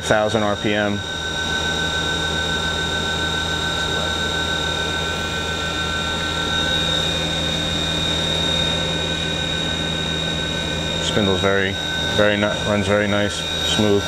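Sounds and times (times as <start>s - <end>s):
machine spindle whine: 0.0s - 14.0s.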